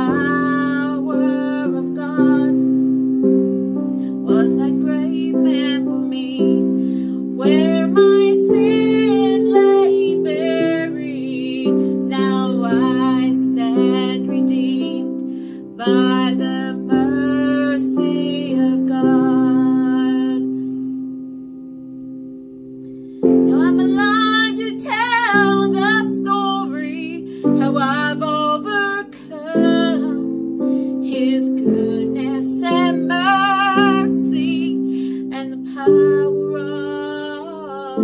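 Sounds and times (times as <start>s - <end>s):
woman singing: 0.0s - 2.9s, 4.1s - 20.8s, 23.5s - 38.0s
instrumental chords: 0.0s - 38.0s.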